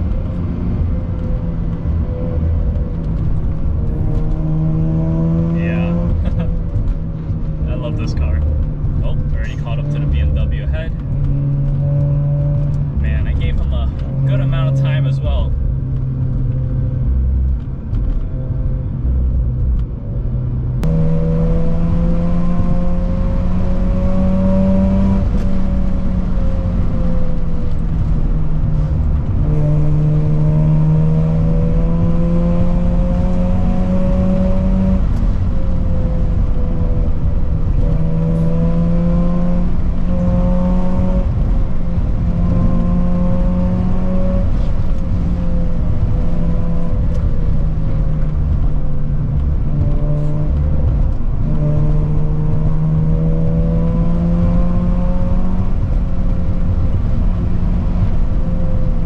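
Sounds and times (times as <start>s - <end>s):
car engine driving: 0.0s - 59.0s
road noise: 0.0s - 59.0s.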